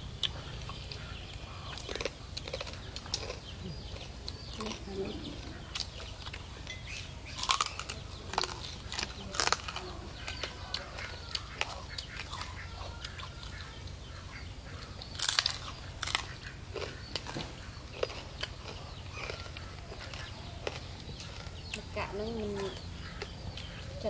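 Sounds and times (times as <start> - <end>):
people chewing and crunching: 0.0 - 24.0.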